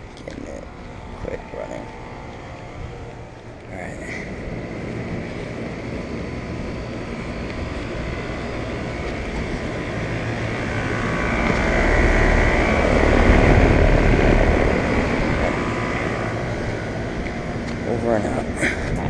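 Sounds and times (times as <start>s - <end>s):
condenser fan whooshing: 0.0s - 19.0s
low compressor hum: 0.0s - 19.0s.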